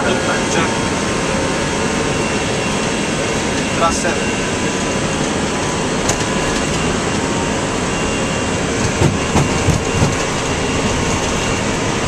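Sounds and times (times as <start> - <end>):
jet engine and airflow noise: 0.0 - 12.0.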